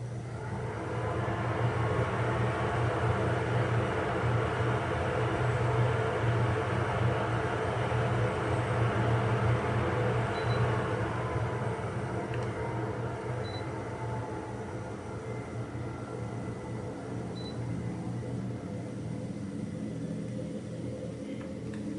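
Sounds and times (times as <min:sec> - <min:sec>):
ventilator fan rush of air: 0:00.0 - 0:21.9.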